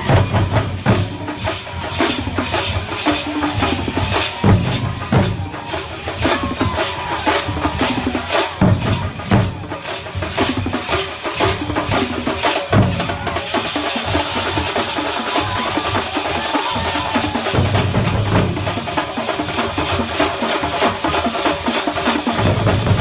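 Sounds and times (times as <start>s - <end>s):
heavy bass drum strokes: 0.0s - 21.2s
percussion ensemble drumming: 0.0s - 23.0s.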